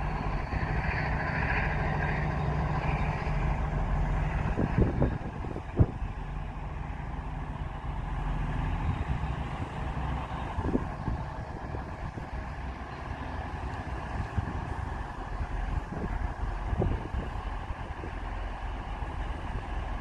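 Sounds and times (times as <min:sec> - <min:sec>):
diesel train engines humming: 0:00.0 - 0:20.0.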